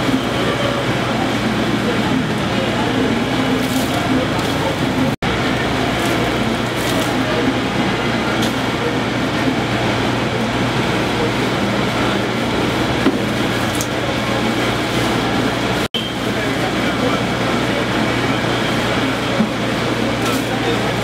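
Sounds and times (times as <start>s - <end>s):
constant background noise: 0.0s - 21.0s
low mechanical hum and rumble: 0.0s - 21.0s.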